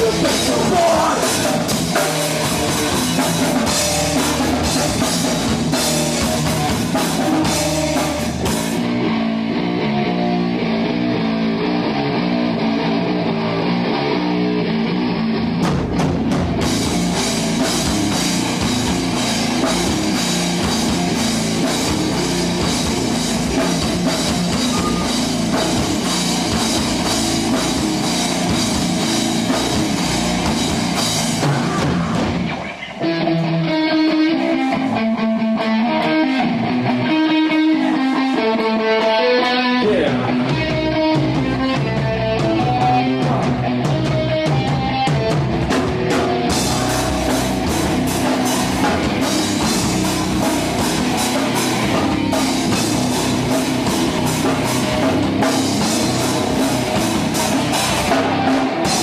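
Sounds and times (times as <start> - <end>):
live metal band playing: 0.0 - 59.0
melodic guitar riff: 0.0 - 59.0.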